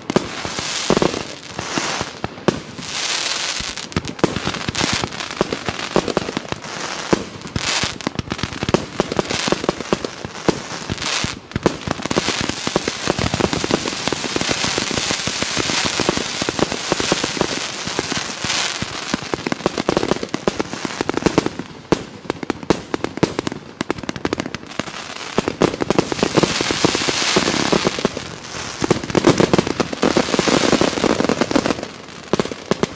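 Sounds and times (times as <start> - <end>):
fireworks firing and crackling: 0.0 - 32.9.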